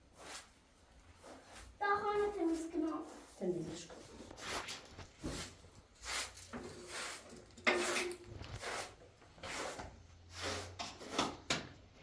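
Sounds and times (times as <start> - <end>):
household objects scraping and clattering: 0.1 - 11.8.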